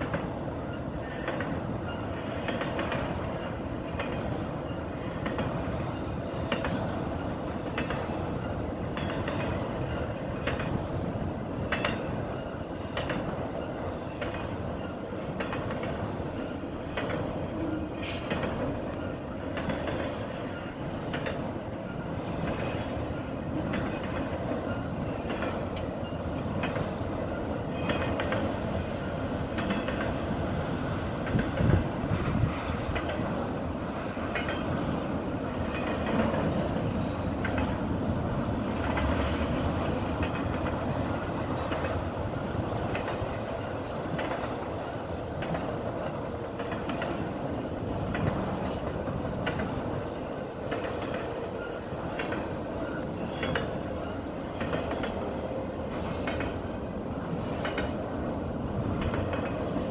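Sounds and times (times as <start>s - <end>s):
steel wheels rumbling on rail: 0.0s - 59.9s
wheels clicking over rail joints: 0.0s - 59.9s.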